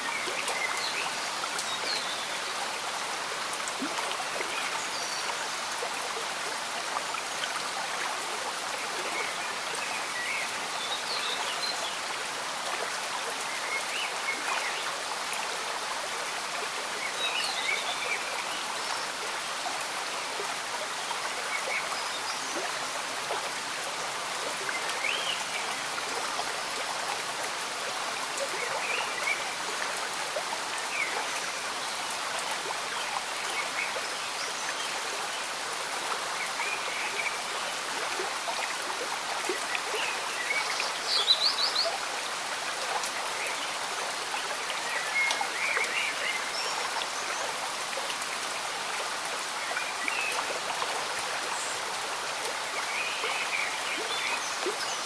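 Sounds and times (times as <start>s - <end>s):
gentle rain: 0.0s - 55.0s.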